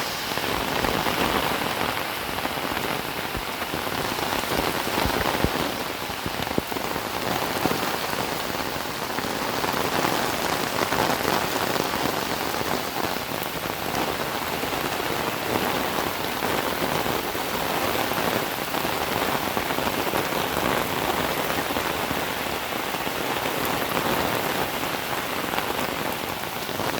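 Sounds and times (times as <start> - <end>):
rain pattering: 0.0 - 26.9.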